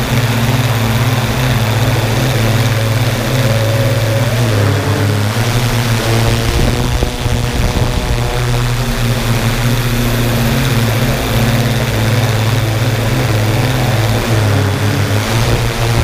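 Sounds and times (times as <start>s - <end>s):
drone motors and propellers humming: 0.0s - 16.0s.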